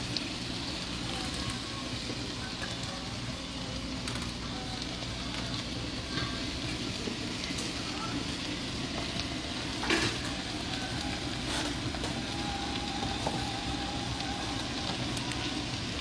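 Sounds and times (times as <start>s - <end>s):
greens sizzling in hot oil: 0.0s - 16.0s.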